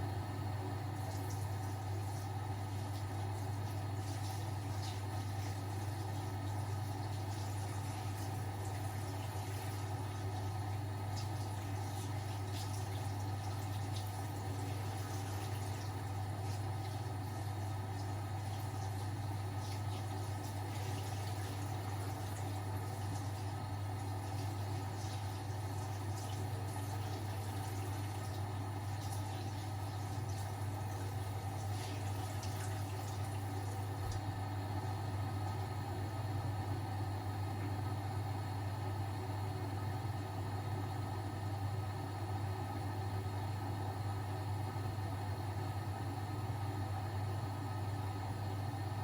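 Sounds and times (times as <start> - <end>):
washing machines humming: 0.0 - 49.0.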